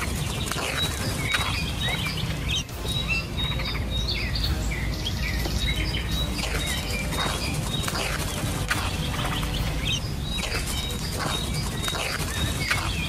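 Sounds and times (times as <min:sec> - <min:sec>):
bird chirping alarm calls: 0:00.0 - 0:13.0.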